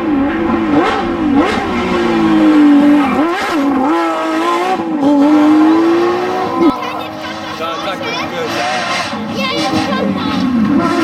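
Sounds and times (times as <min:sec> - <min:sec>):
rally car engine high revs: 0:00.0 - 0:11.0.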